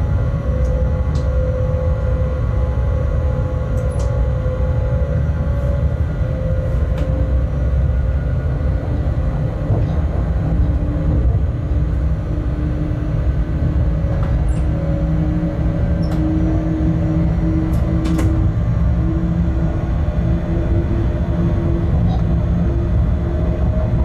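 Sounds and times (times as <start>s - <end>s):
humming whine of traction motors: 0.0s - 24.0s.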